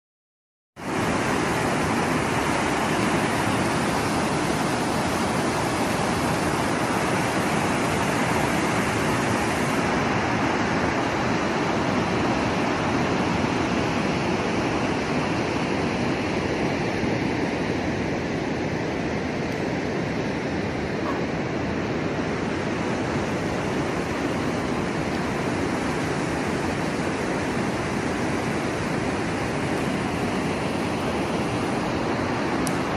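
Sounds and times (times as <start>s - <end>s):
water rushing down a spillway: 0.8s - 32.9s.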